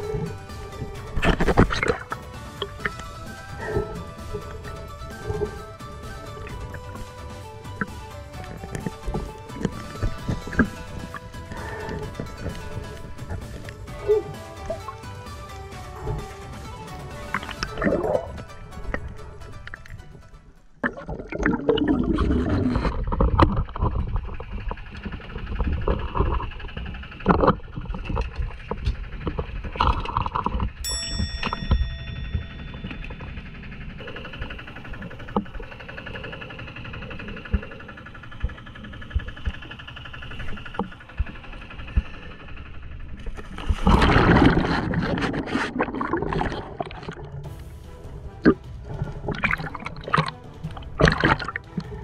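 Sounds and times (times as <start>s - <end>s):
water gurgling and rushing: 0.0s - 30.9s, 31.6s - 52.0s.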